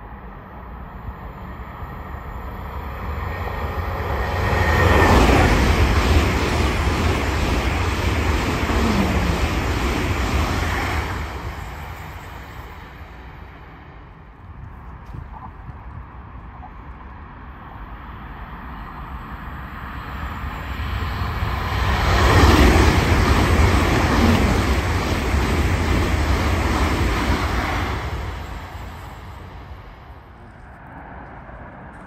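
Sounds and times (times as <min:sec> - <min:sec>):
train rushing past: 0:00.0 - 0:14.3, 0:18.4 - 0:31.9.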